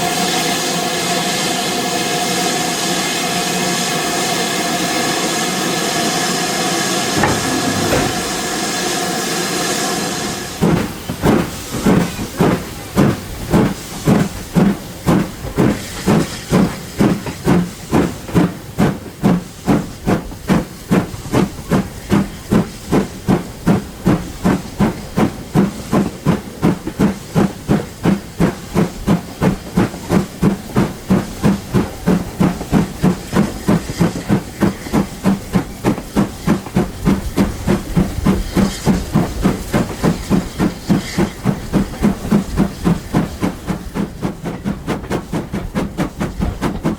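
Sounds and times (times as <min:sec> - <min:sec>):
hiss of escaping steam: 0:00.0 - 0:46.9
steam locomotive chuffing: 0:00.0 - 0:46.9.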